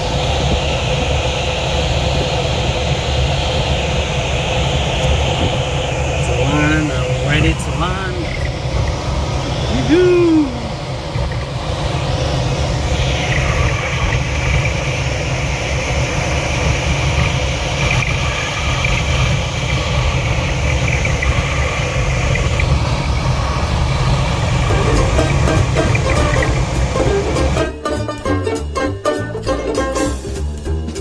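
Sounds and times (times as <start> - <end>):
rushing rumble of airflow: 0.0 - 27.8.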